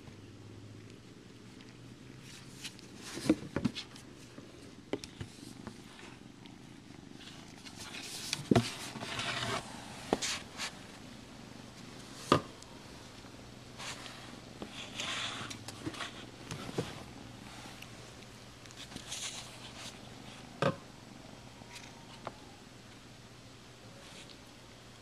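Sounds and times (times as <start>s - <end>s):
kitten purring: 0.0s - 22.6s.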